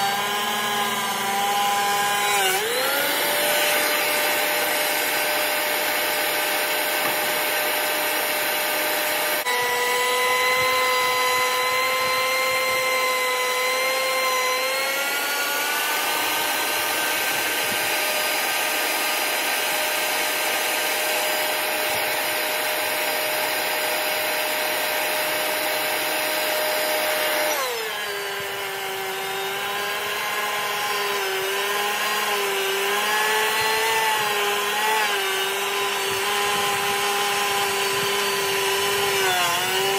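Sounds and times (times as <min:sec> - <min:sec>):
planer cutterhead noise: 0:00.0 - 0:39.9
thickness planer motor whine: 0:00.0 - 0:39.9.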